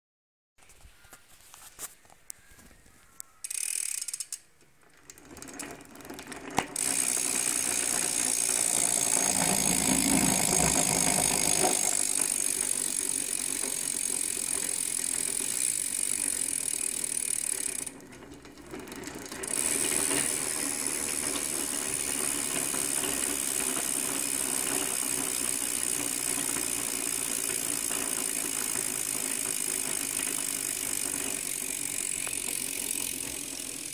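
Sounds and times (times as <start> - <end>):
bicycle hub ratchet buzz: 3.4 - 33.9.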